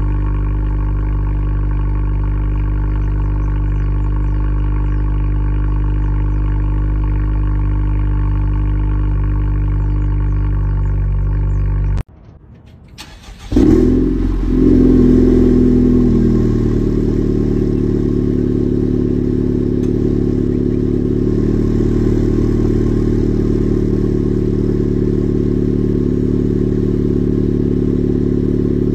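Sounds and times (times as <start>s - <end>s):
car engine cold-starting and idling: 0.0s - 28.9s.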